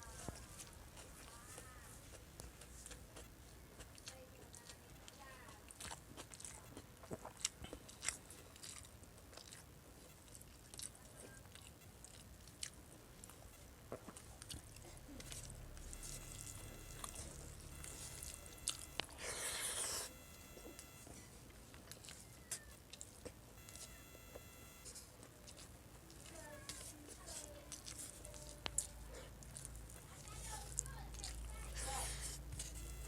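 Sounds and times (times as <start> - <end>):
person chewing wet food: 0.0 - 33.0.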